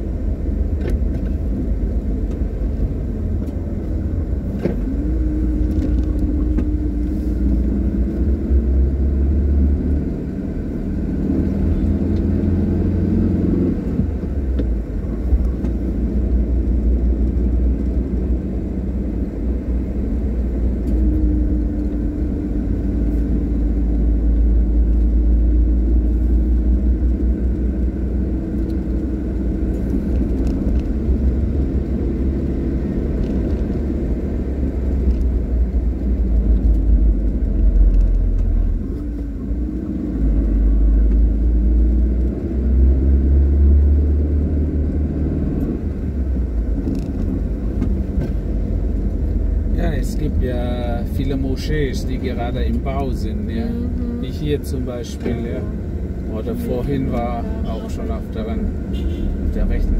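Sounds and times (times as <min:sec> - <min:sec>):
car engine hum: 0:00.0 - 0:59.9
road noise rumble: 0:00.0 - 0:59.9.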